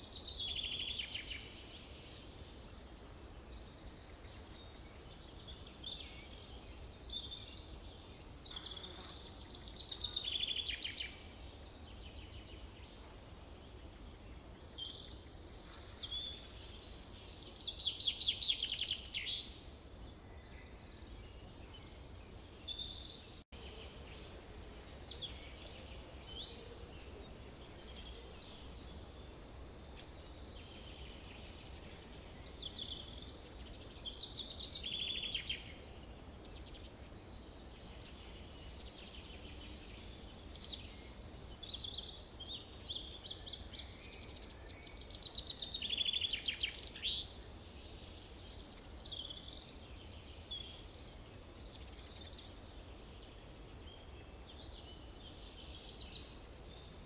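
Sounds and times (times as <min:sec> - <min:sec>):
forest birds singing: 0:00.0 - 0:57.0.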